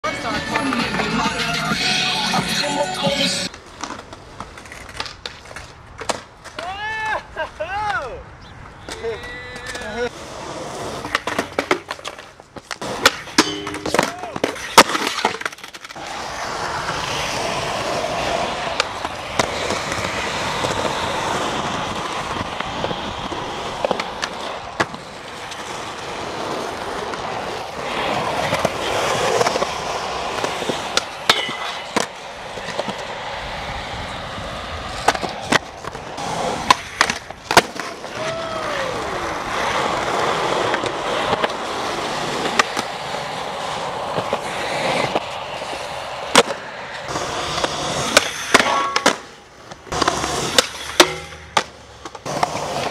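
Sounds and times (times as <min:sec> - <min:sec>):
skateboard clacking on ground: 0:00.0 - 0:08.0, 0:08.7 - 0:52.9
skateboard wheels rolling on concrete: 0:00.0 - 0:52.9.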